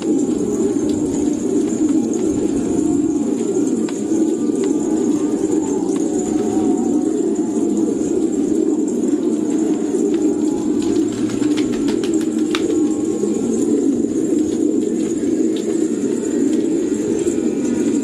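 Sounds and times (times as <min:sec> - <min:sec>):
pigeons cooing: 0:00.0 - 0:18.0
wing flutters: 0:00.0 - 0:18.0.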